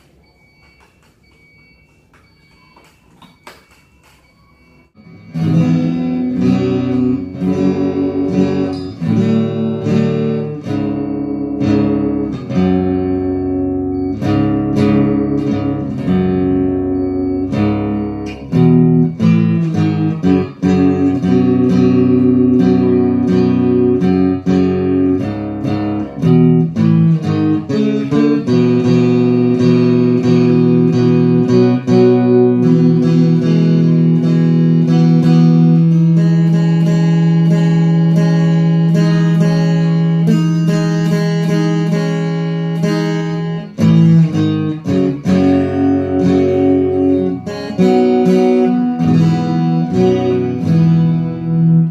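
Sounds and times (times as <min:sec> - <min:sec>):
acoustic guitar playing: 0:00.0 - 0:04.2, 0:04.8 - 0:51.9.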